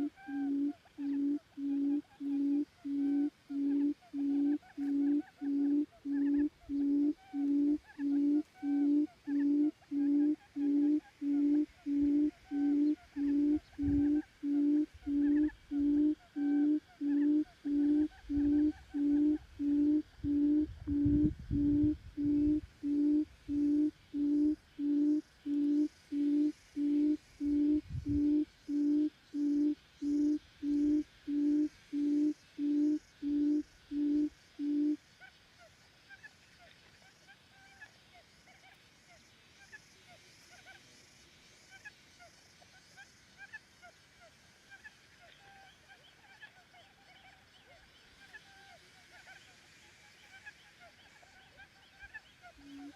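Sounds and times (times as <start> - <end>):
quail hooting call: 0.0 - 39.8, 43.0 - 52.9.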